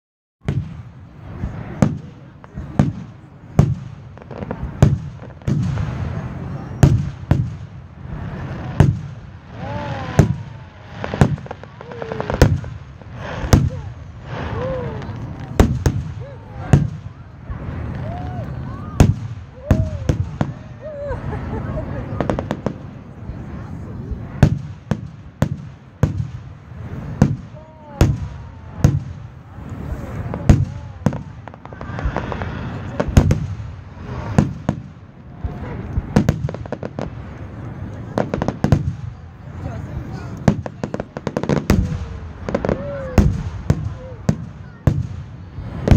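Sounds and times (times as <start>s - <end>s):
fireworks shells booming: 0.4s - 18.2s, 24.4s - 39.2s, 40.2s - 45.9s.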